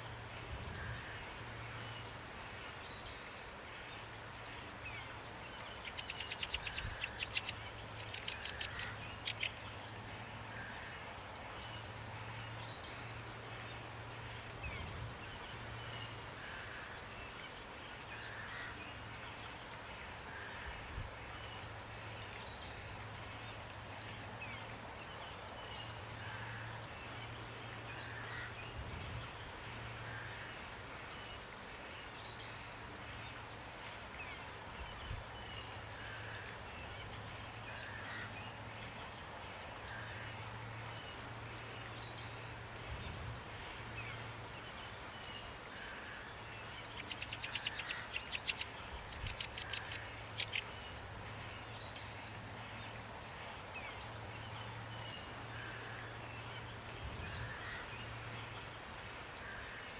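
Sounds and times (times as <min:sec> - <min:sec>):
songbirds calling: 0:00.0 - 0:59.9
steady rain: 0:00.0 - 0:59.9.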